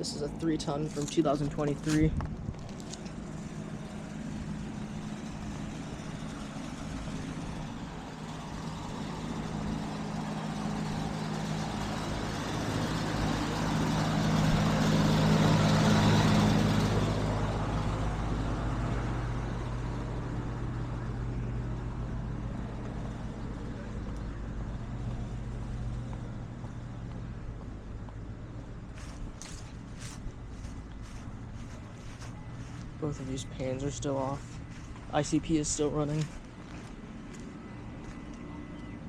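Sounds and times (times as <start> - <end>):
condenser fans rushing: 0.0 - 37.2
air conditioner compressor hum: 0.0 - 39.0.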